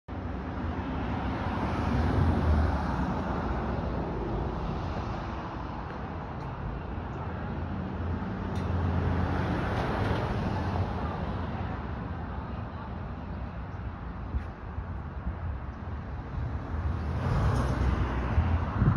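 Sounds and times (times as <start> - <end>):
road traffic passing: 0.1 - 18.9.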